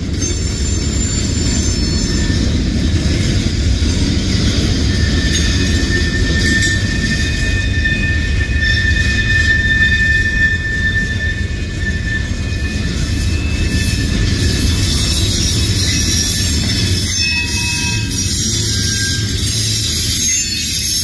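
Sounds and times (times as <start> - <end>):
freight train wheels rumbling: 0.0 - 21.0
high wheel squeal: 0.0 - 21.0.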